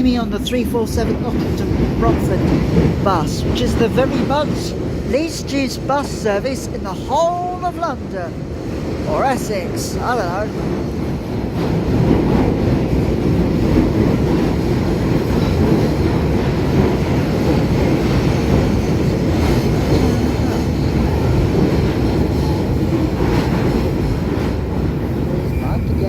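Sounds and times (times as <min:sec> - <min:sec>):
train wheels rumbling in tunnel: 0:00.0 - 0:26.0.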